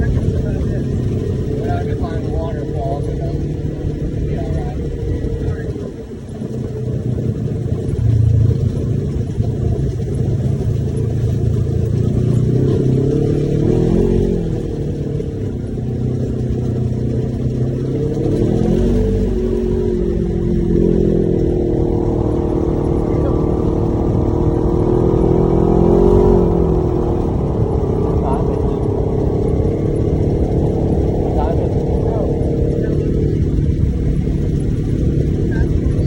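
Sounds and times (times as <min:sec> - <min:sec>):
utility vehicle engine revving: 0:00.0 - 0:36.0.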